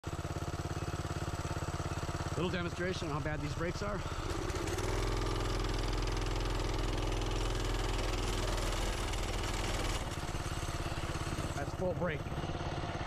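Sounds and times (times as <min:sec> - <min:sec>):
minibike engine running: 0:00.0 - 0:13.0.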